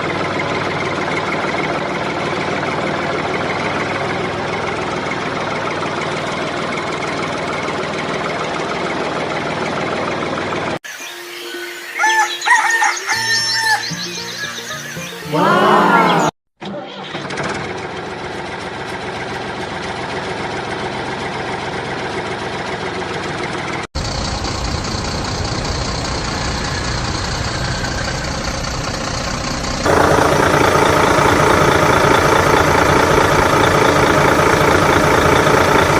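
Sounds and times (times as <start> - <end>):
vehicle engine idling: 0.0 - 10.8, 17.2 - 35.9.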